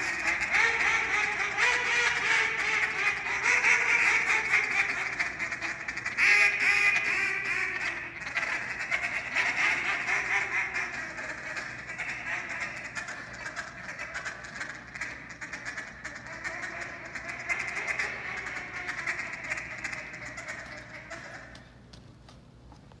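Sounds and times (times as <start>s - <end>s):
duck call quacking: 0.0s - 21.6s.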